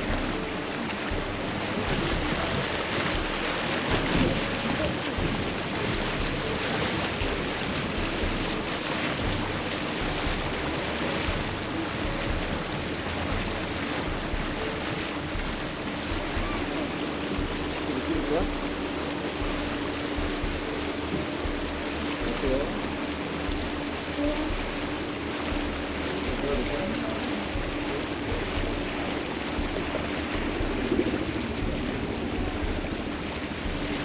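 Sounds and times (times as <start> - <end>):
low engine hum: 0.0 - 34.0
rush of water: 0.0 - 34.0
wind on microphone: 0.0 - 34.0.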